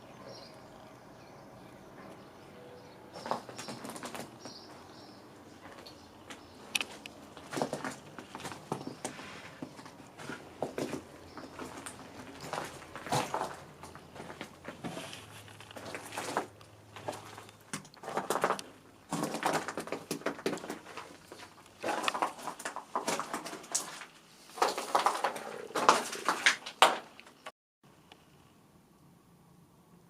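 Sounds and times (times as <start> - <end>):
footsteps crunching on debris: 3.1 - 27.5.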